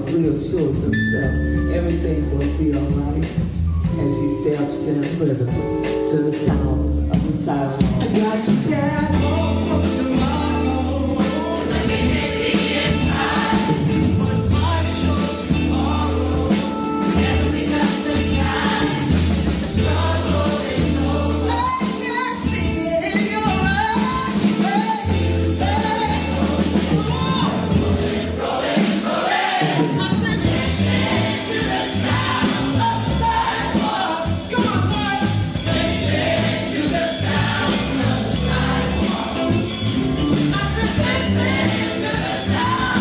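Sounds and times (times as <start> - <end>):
choir singing gospel with band: 7.2 - 43.0.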